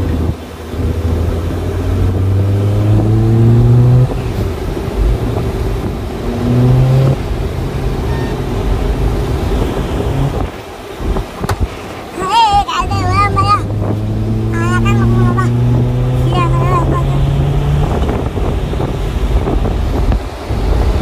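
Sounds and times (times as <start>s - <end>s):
car engine accelerating: 0.0s - 21.0s
road noise: 0.0s - 21.0s.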